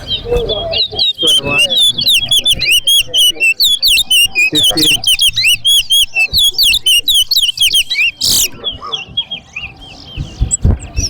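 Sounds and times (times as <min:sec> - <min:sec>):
finches singing whistled notes: 0:00.0 - 0:11.0.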